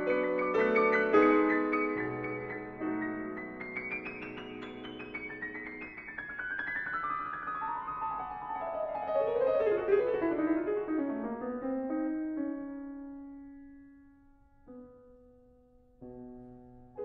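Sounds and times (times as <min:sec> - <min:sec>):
solo piano run: 0:00.0 - 0:17.0.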